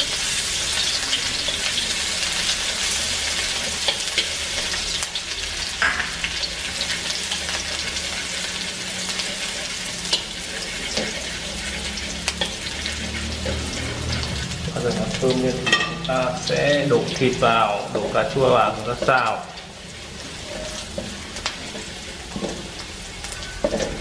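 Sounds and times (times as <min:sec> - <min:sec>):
shallots sizzling in hot oil: 0:00.0 - 0:24.0.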